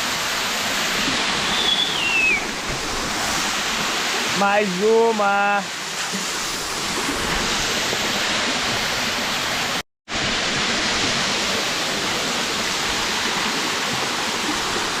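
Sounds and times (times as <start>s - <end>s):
waterfall rushing and splashing: 0.0s - 15.0s.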